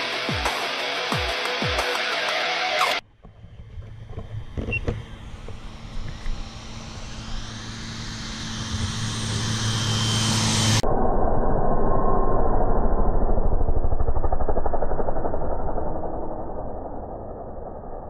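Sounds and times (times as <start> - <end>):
propeller plane passing low: 3.1 - 18.0.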